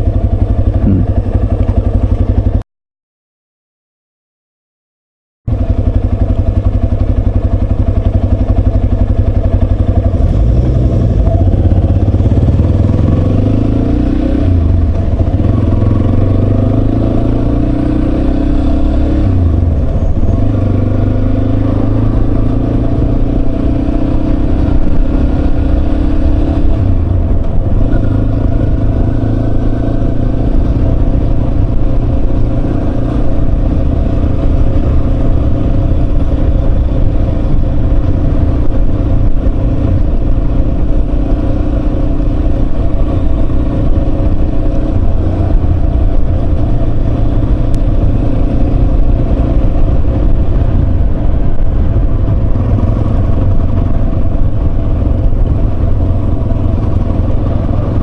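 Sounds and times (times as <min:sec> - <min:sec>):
motorcycle engine shifting gears: 0:00.0 - 0:02.6, 0:05.5 - 0:58.0.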